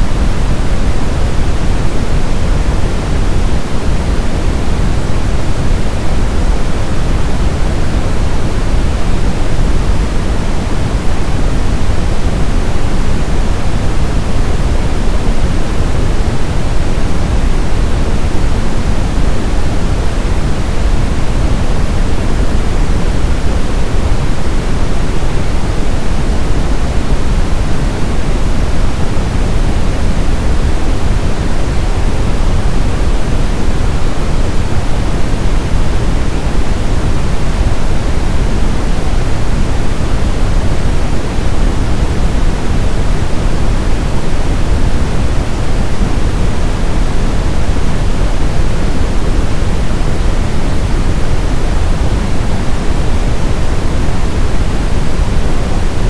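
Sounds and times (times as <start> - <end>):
brown noise: 0.0 - 56.0.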